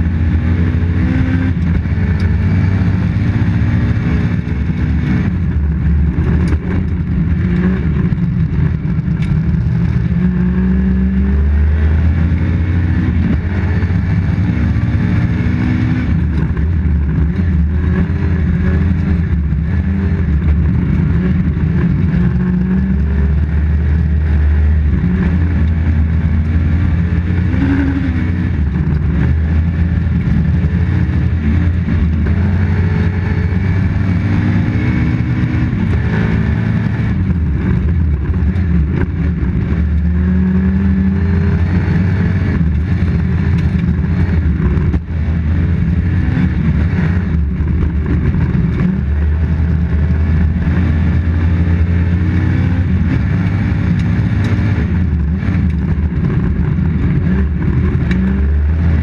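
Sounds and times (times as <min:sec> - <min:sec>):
car engine revving: 0:00.0 - 0:59.0
tyre and road noise: 0:00.0 - 0:59.0.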